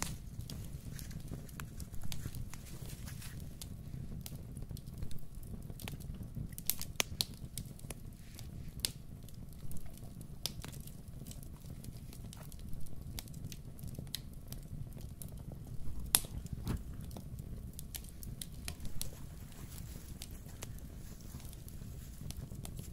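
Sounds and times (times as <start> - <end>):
campfire crackling and popping: 0.0 - 22.9
low steady rumble: 0.0 - 22.9.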